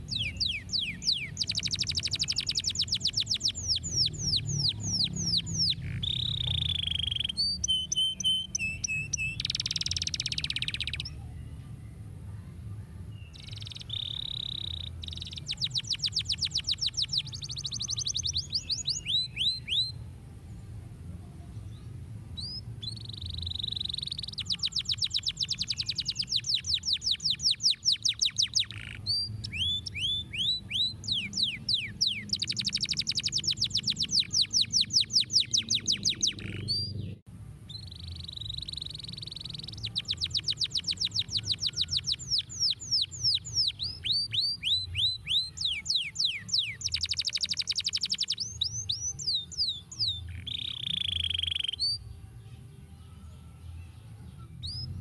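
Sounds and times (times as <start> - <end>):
canary singing trills: 0.0 - 11.3, 13.1 - 20.0, 22.4 - 52.1, 53.1 - 55.0.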